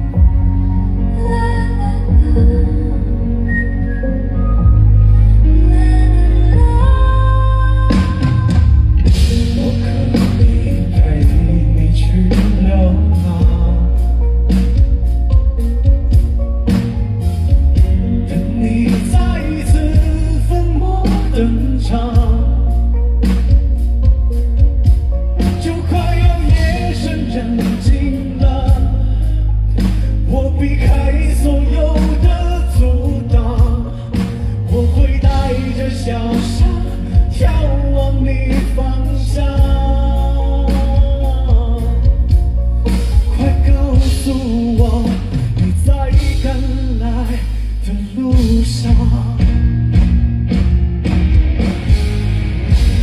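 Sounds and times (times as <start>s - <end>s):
person singing: 0.0s - 50.0s
pop-rock band playing loud: 0.0s - 53.0s.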